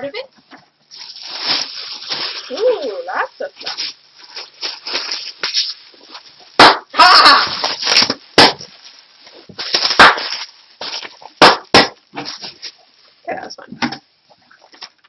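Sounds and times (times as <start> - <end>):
plastic crinkling: 0.4 - 13.6.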